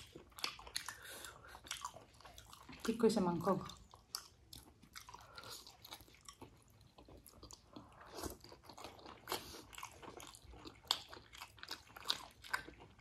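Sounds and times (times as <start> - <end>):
person chewing with mouth clicks: 0.0 - 3.0, 3.6 - 13.0.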